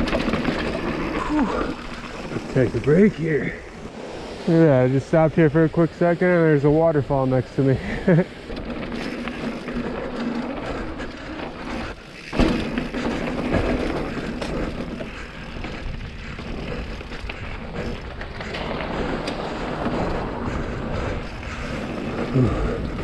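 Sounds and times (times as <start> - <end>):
bike tyres on dirt road: 0.0 - 23.0.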